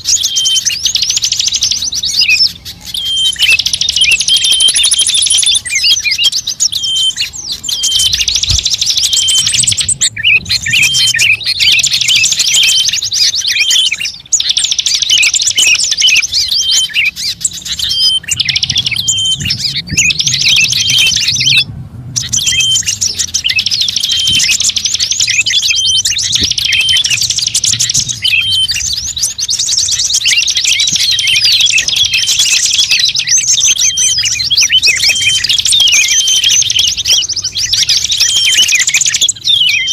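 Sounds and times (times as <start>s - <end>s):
songbird chirping and twittering: 0.0s - 39.9s.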